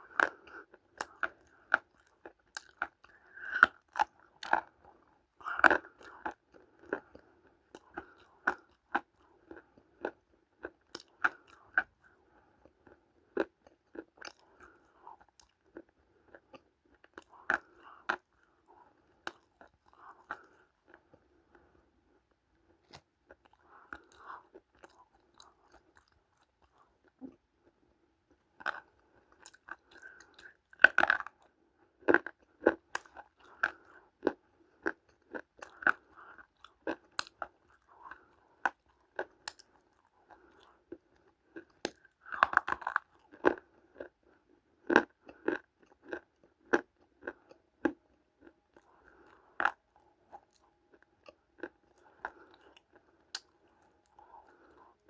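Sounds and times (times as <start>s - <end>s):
clay being chewed with crunches: 0.0s - 55.0s.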